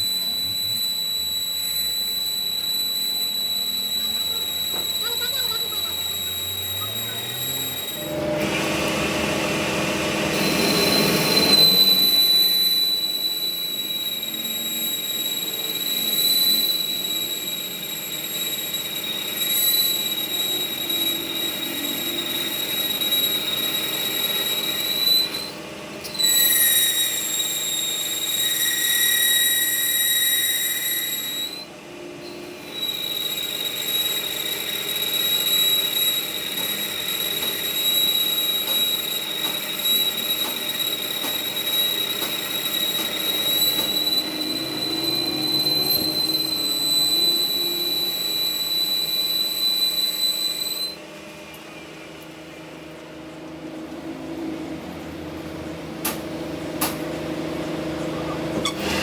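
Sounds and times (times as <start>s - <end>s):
metal-working machine squealing: 0.0s - 52.3s, 56.1s - 59.0s.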